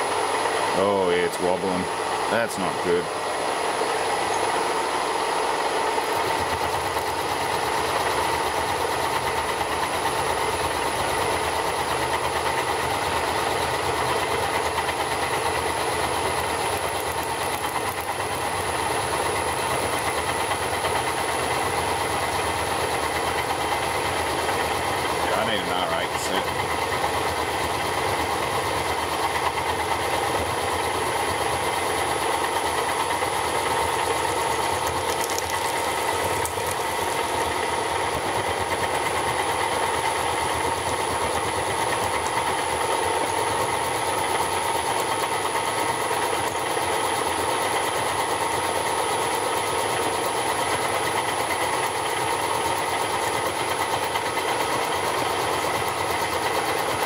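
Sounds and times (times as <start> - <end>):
high machine whine: 0.0 - 57.0
milling machine cutting plastic: 0.4 - 47.8.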